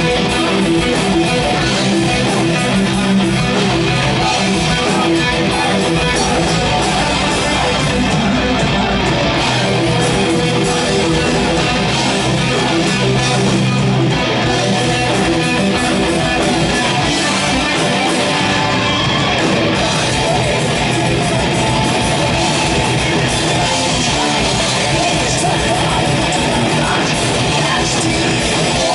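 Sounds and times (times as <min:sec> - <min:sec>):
thrash metal band playing: 0:00.0 - 0:28.9.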